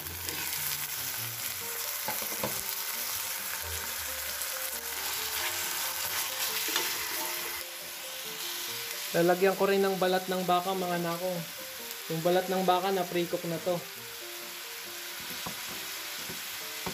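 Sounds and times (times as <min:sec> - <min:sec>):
meat sizzling in hot oil: 0:00.0 - 0:16.9.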